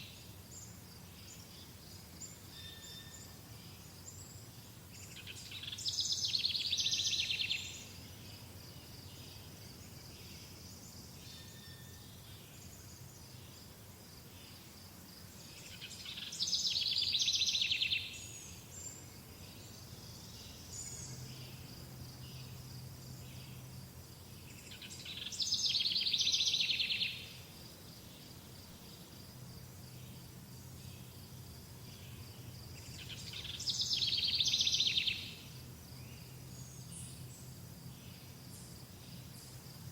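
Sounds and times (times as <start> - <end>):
songbird rapid trill: 0.0 - 13.5, 15.4 - 29.2, 29.9 - 39.9
steady high insect tone: 0.0 - 39.9.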